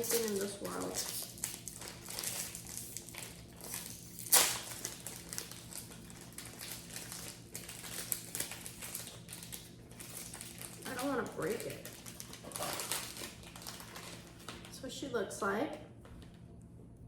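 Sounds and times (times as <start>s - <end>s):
plastic snack wrapper crinkling: 0.0s - 14.7s.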